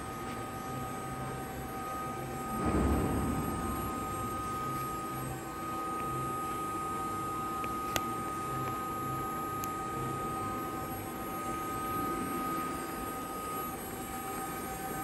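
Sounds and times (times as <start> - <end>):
heavy machinery drone: 0.0 - 15.0
high whine: 0.0 - 15.0.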